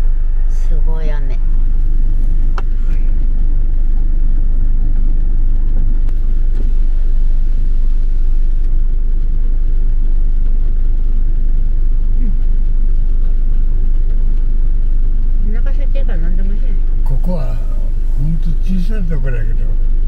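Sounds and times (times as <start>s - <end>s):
car idling: 0.0s - 20.0s.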